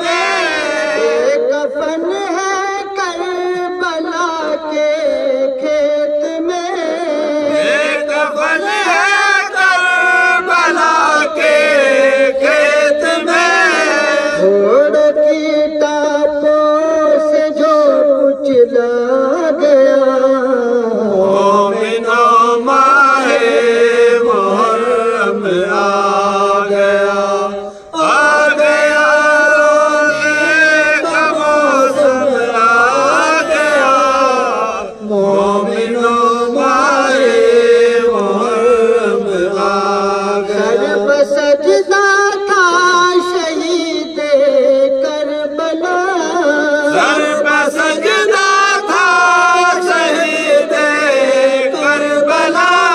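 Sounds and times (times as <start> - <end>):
men chanting a lament: 0.0 - 52.9.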